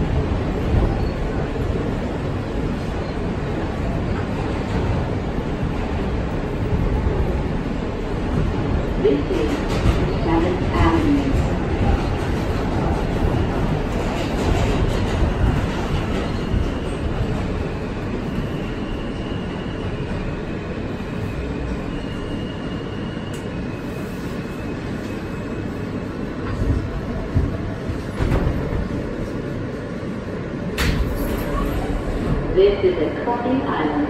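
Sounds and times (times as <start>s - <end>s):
steel wheels rumbling on rail: 0.0s - 33.7s.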